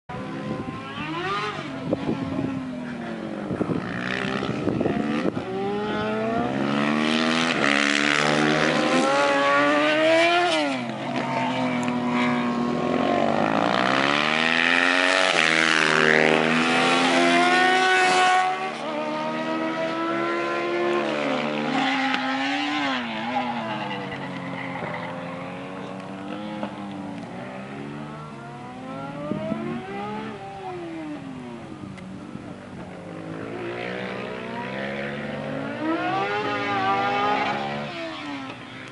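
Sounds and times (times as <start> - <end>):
racing motorcycles revving past: 0.1 - 38.9.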